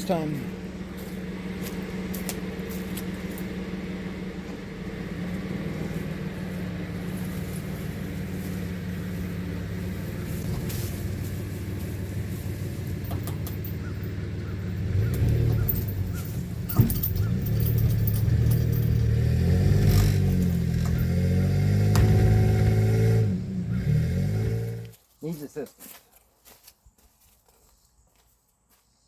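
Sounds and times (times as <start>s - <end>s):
small truck engine under load: 0.0s - 25.0s.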